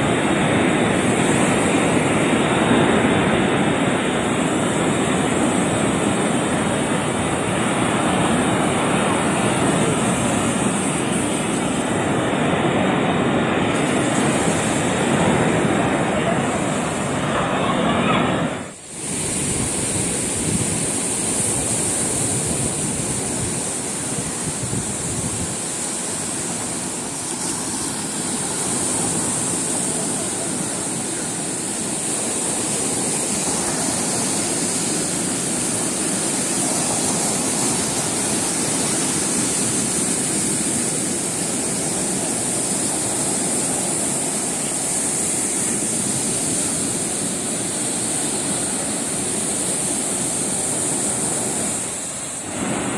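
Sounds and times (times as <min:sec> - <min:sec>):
constant high hiss: 0:00.0 - 0:52.9
surf breaking on rocks: 0:00.0 - 0:52.9.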